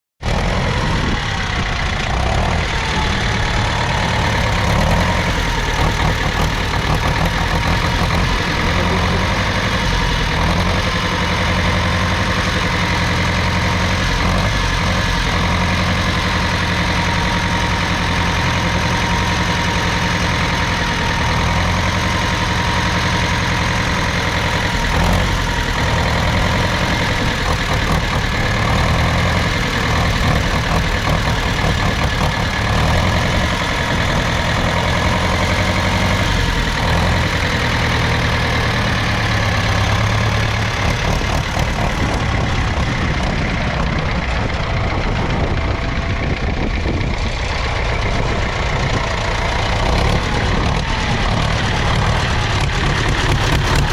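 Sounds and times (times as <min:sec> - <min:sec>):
diesel engine running: 0:00.2 - 0:53.9.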